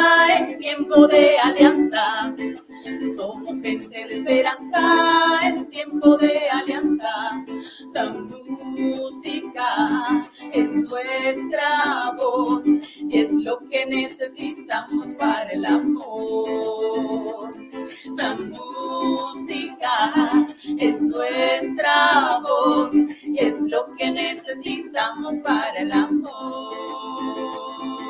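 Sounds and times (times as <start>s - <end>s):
strummed string instrument: 0.0s - 28.0s
women singing in harmony: 0.0s - 28.0s.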